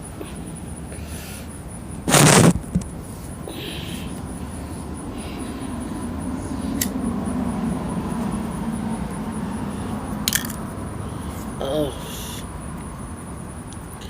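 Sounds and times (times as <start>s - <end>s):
distant engine rumble: 0.0s - 14.0s.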